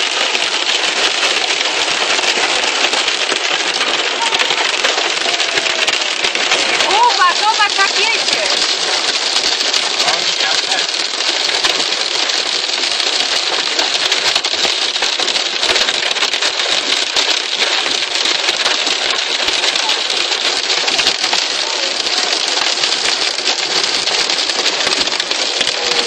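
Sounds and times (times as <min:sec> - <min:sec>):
hail and rain on car roof: 0:00.0 - 0:26.0.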